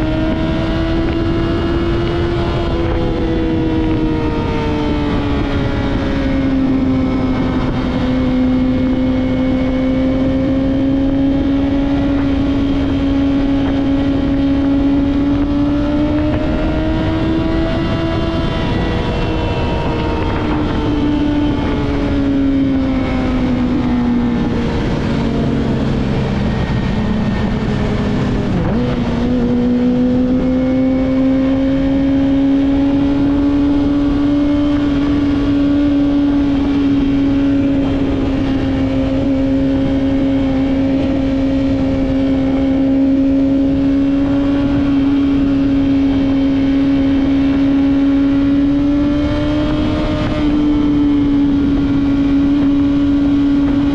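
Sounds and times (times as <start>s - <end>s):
motorcycle engine while riding: 0.0s - 53.9s.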